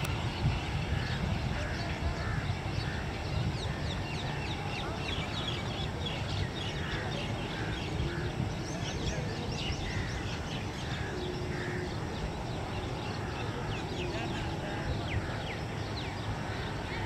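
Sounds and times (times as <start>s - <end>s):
birds chirping and calling: 0.0s - 17.0s
steady low rumble: 0.0s - 17.0s.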